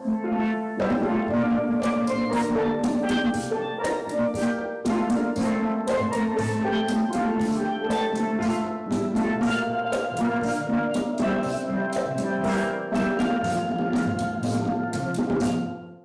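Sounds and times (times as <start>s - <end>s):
steel drum band playing: 0.0s - 15.9s
drum and percussion: 0.0s - 16.0s.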